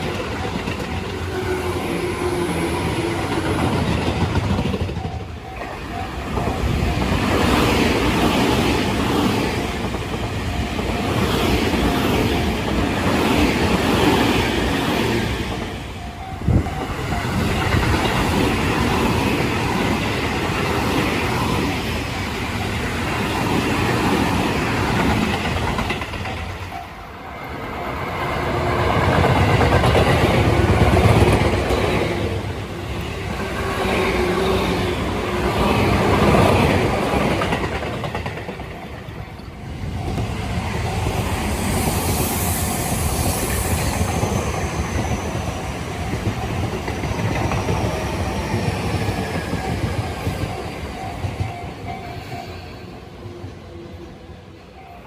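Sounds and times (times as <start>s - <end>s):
train wheels clattering on rails: 0.0s - 53.6s.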